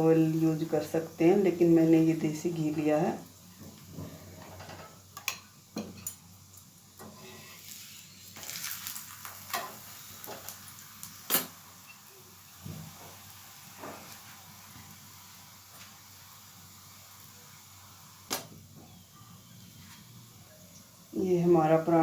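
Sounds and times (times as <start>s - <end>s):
flatbread sizzling in a pan: 0.0s - 22.0s.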